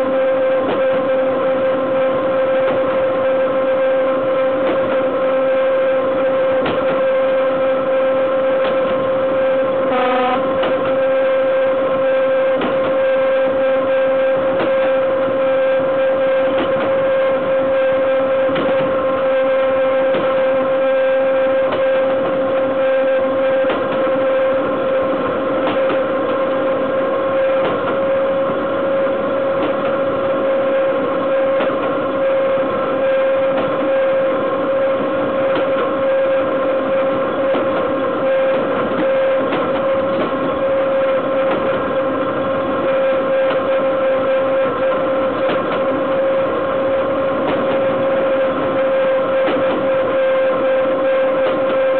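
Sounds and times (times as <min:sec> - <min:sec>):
high whine of locomotive: 0:00.0 - 0:51.9
wheels rushing on rail: 0:00.0 - 0:51.9.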